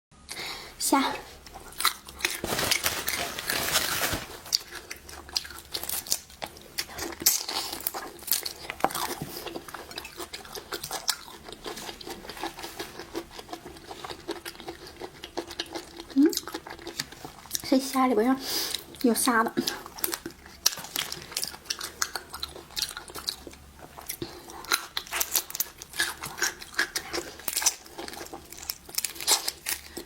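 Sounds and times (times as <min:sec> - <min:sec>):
crunching and chewing: 0:01.3 - 0:30.0.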